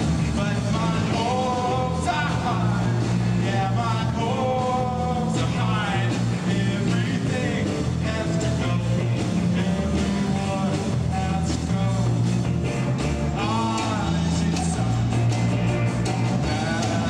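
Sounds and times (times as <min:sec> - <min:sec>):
bass: 0:00.0 - 0:17.0
drums: 0:00.0 - 0:17.0
electric guitar: 0:00.0 - 0:17.0.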